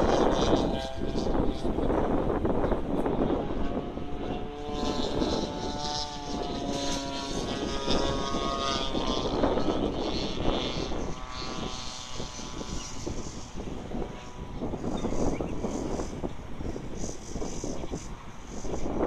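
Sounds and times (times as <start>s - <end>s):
gusty wind buffeting microphone: 0.0s - 19.0s
wind whistling tones: 0.0s - 19.0s.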